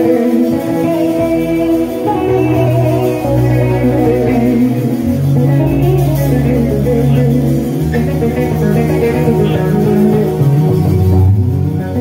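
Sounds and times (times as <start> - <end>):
bass guitar: 0.0 - 12.0
electric guitar: 0.0 - 12.0
keyboard: 0.0 - 12.0.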